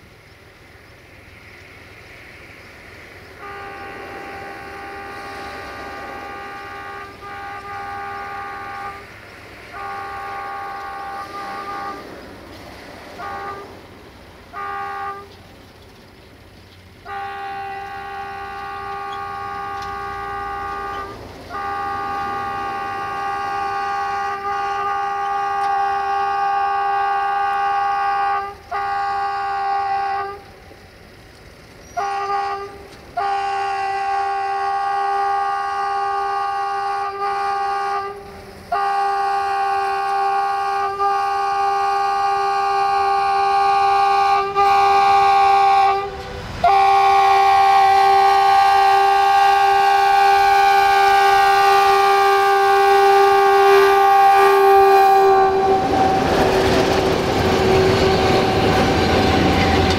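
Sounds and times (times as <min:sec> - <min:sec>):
locomotive horn blasts: 0:03.4 - 0:13.9, 0:14.5 - 0:15.4, 0:17.0 - 0:30.5, 0:31.8 - 0:59.9.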